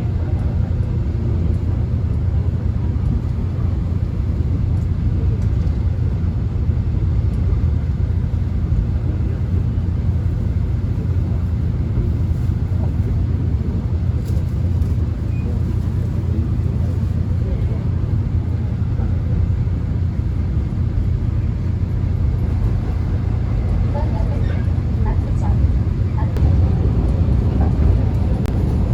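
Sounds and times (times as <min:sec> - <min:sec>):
train rumbling on tracks: 0:00.0 - 0:28.9.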